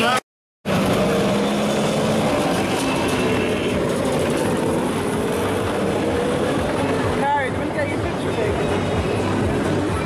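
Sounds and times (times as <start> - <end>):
mechanical rumble: 0.7 - 10.0.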